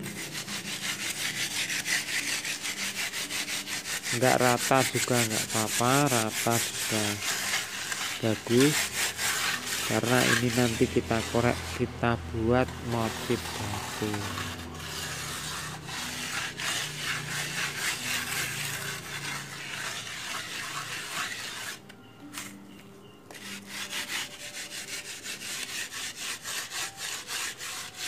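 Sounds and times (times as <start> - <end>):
plastering float scraping plaster: 0.0 - 22.6, 23.3 - 28.0.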